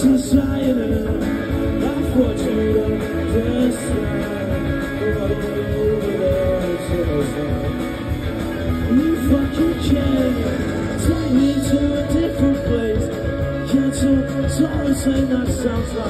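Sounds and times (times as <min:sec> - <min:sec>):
electric guitar: 0:00.0 - 0:16.0
live rock band: 0:00.0 - 0:16.0.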